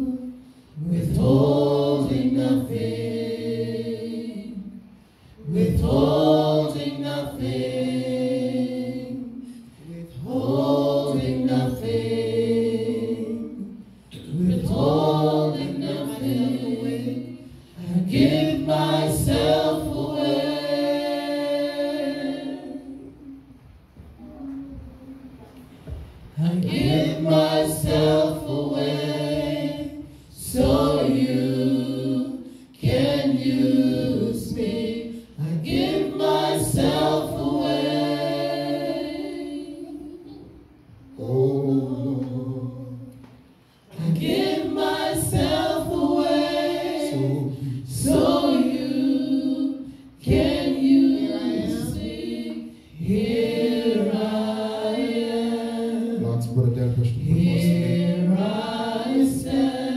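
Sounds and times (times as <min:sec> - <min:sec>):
group singing unaccompanied: 0:00.0 - 0:24.1, 0:25.8 - 0:59.9.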